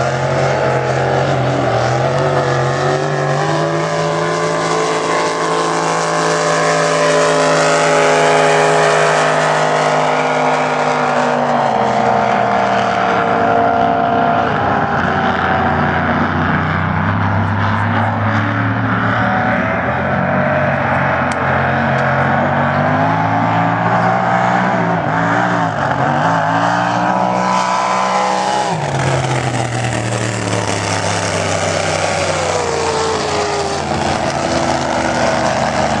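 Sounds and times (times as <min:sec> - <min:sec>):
race boat engines running hard: 0:00.0 - 0:36.0.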